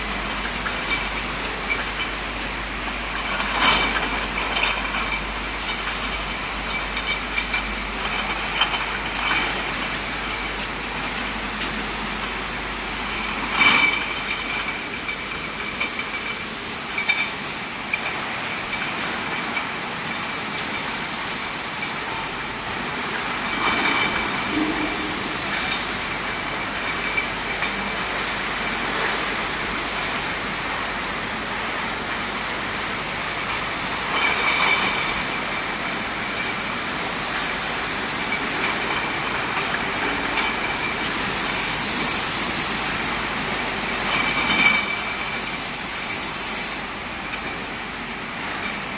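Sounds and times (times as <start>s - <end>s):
machinery clattering and hissing: 0.0s - 48.9s.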